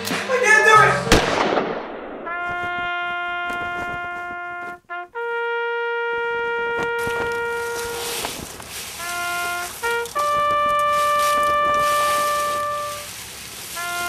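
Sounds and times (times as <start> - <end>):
slow trumpet melody: 2.2 - 14.0.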